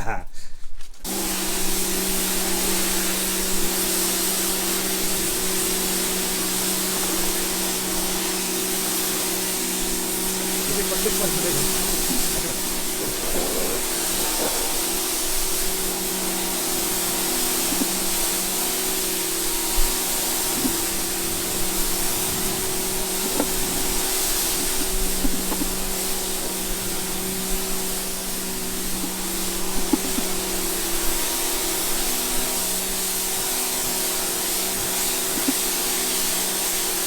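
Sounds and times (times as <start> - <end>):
cleaning machine motor running: 1.1 - 37.0.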